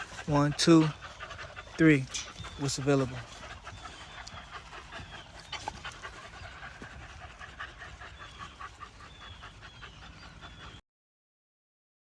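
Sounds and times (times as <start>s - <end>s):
puppies panting: 0.0s - 10.8s.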